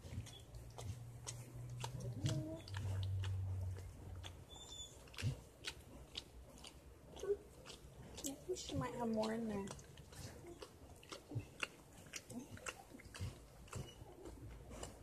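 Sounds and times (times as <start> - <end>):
dog licking puppy: 0.0 - 15.0.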